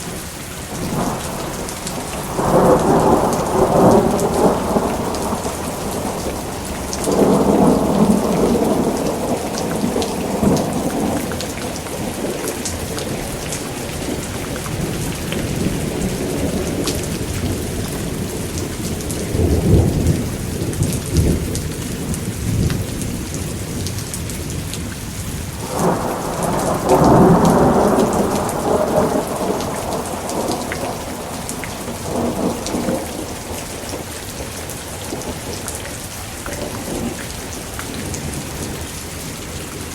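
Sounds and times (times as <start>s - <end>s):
heavy rain hissing and pattering: 0.0s - 39.9s
thunder rumbling: 0.0s - 39.9s.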